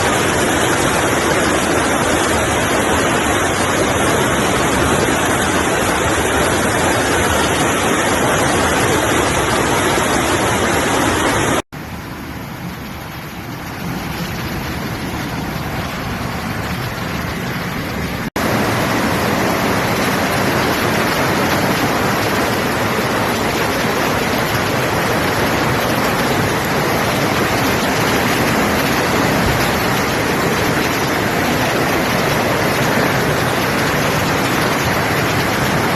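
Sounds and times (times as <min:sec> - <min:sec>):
floodwater rushing: 0:00.0 - 0:35.9.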